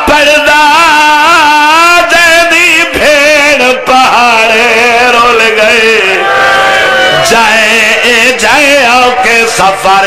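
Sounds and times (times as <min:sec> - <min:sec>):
man chanting into microphone: 0:00.0 - 0:06.3, 0:07.1 - 0:10.0.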